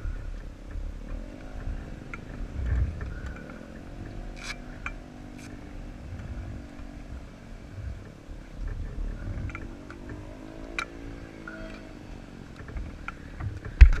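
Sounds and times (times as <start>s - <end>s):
low rumble: 0.0s - 14.0s
motorcycle engine revving: 0.0s - 14.0s.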